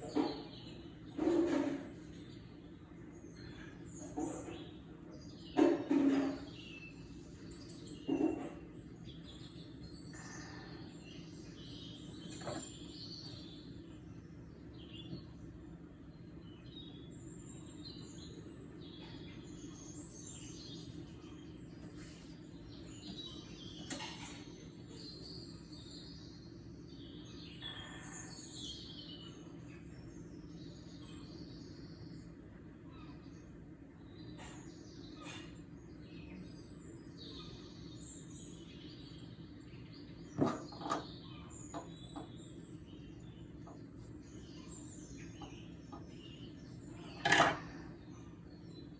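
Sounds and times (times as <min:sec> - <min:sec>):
birds chirping and tweeting: 0:00.0 - 0:48.9.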